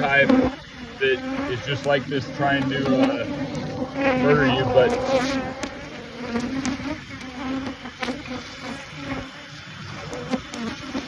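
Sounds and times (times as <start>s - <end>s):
bees buzzing loudly: 0.0s - 11.0s.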